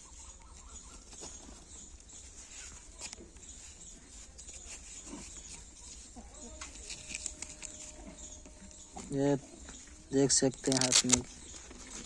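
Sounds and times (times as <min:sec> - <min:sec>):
glove fabric rustling: 0:00.0 - 0:12.0.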